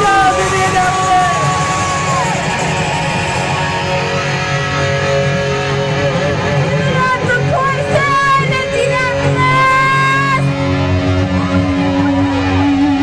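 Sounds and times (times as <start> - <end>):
electric guitar solo: 0.0 - 13.0
rock ballad: 0.0 - 13.0.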